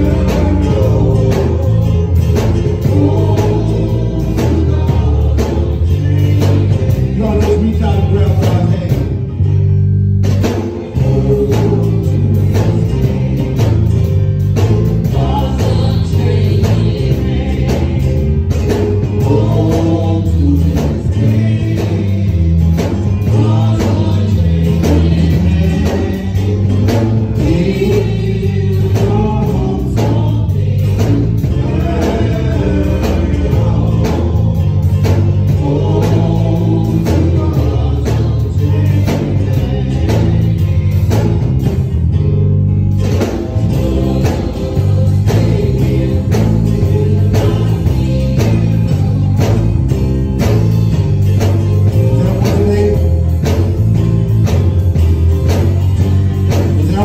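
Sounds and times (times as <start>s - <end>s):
bass line: 0.0s - 57.0s
gospel singing: 0.0s - 57.0s
steady drum beat: 0.0s - 57.0s.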